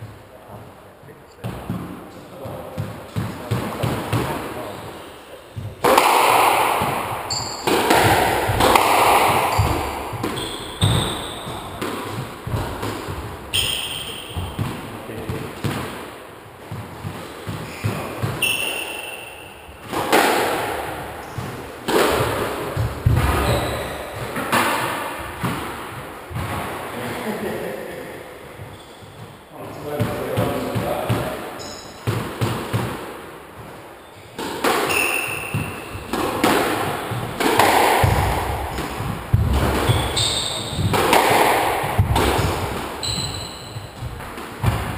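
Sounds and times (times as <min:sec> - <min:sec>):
shoes squeaking on wooden floor: 0:01.1 - 0:06.0, 0:06.8 - 0:15.3, 0:16.7 - 0:26.6, 0:28.4 - 0:29.6, 0:31.6 - 0:32.2, 0:33.6 - 0:44.9
squash ball hits ringing: 0:02.8 - 0:16.0, 0:16.7 - 0:26.7, 0:28.6 - 0:33.0, 0:34.3 - 0:44.9.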